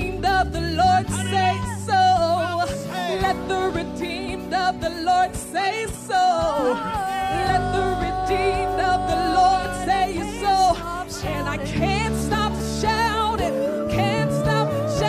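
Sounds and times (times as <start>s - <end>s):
drums: 0.0s - 15.0s
electric guitar: 0.0s - 15.0s
woman singing: 0.0s - 15.0s.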